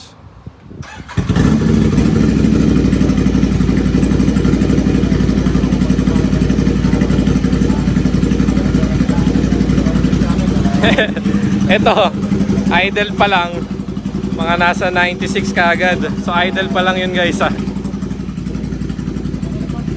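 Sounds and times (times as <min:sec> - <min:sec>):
motorcycle engine starting and idling: 0:00.8 - 0:19.9.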